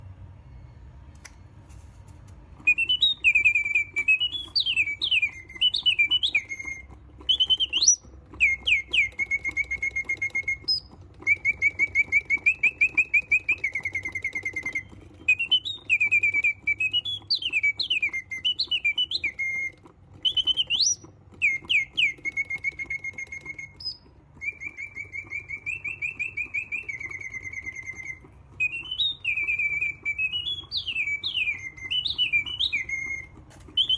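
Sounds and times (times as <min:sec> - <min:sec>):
faint low mechanism hum: 0:00.0 - 0:33.9
mechanical bird whistling trills: 0:02.6 - 0:33.9.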